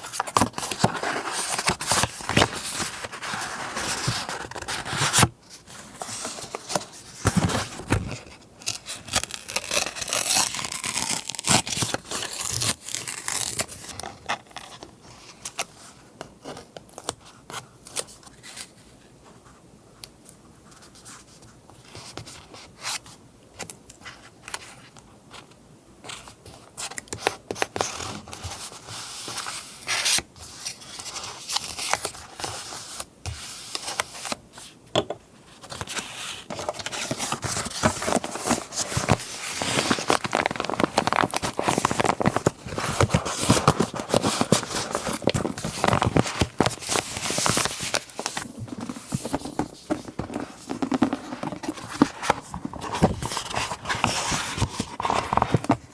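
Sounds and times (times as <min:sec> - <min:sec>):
paper rustling and crinkling: 0:00.0 - 0:18.9, 0:23.6 - 0:34.8, 0:35.4 - 0:55.9.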